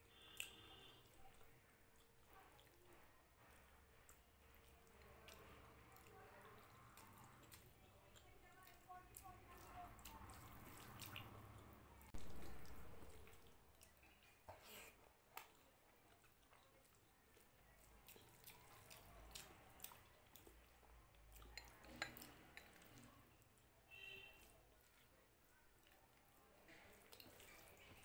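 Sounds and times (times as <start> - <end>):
wet eating sounds: 0.0 - 28.0.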